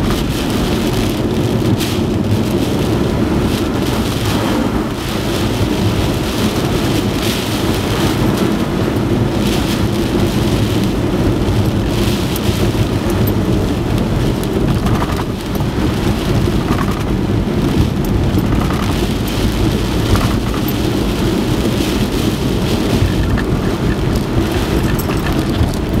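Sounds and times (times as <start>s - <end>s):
deep rumble: 0.0s - 26.0s
rain and wind rushing: 0.0s - 26.0s.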